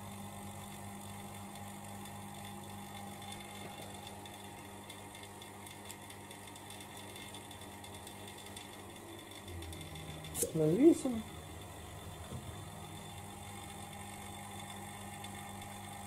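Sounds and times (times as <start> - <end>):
vacuum pump humming: 0.0 - 16.0.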